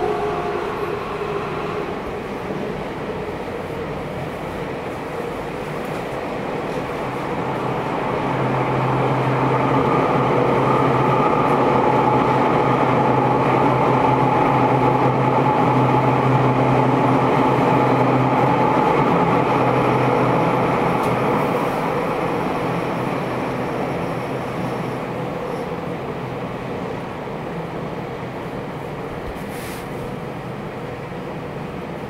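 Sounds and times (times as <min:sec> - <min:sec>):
subway wheels rumbling on rail: 0:00.0 - 0:32.0.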